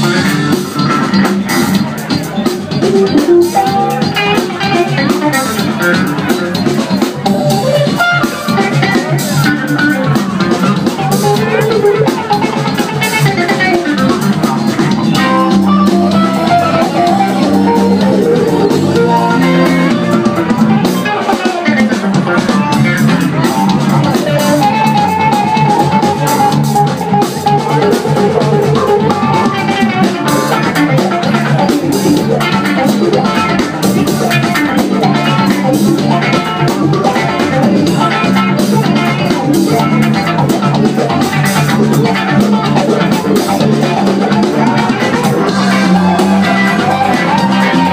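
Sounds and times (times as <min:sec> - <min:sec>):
bass guitar: 0:00.0 - 0:47.9
drum kit: 0:00.0 - 0:47.9
electric guitar: 0:00.0 - 0:47.9.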